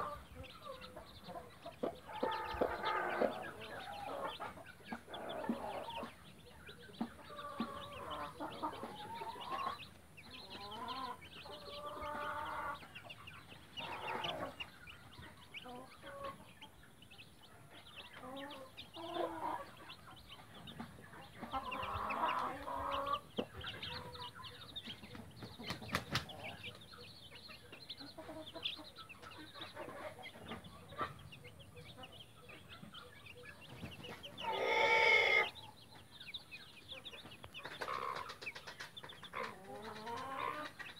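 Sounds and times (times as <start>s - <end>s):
chicks cheeping: 0.0s - 40.9s
hen clucking: 0.0s - 40.9s.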